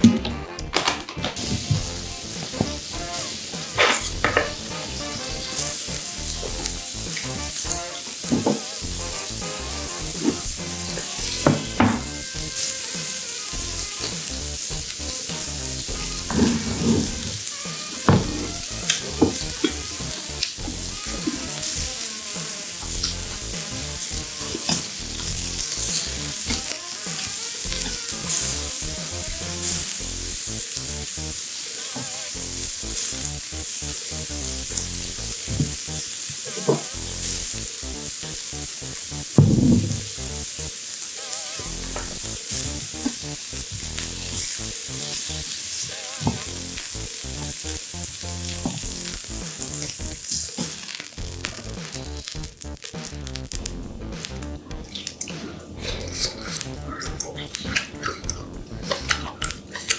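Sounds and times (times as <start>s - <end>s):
beef sizzling on grill: 1.4s - 55.0s.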